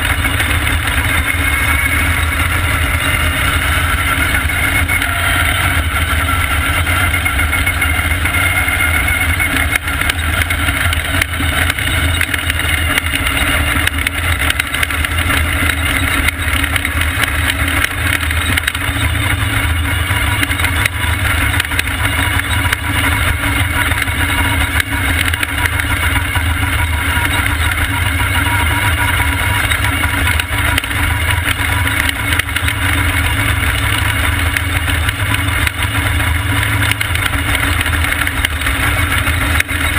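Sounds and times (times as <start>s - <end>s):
race car engine droning: 0.0s - 39.9s.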